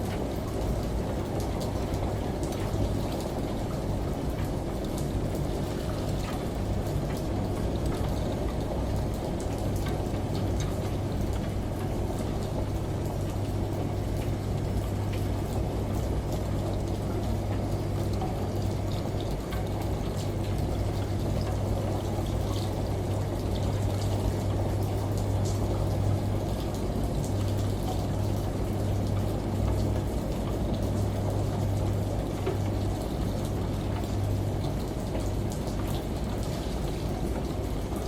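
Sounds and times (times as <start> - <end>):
rain: 0.0 - 38.0.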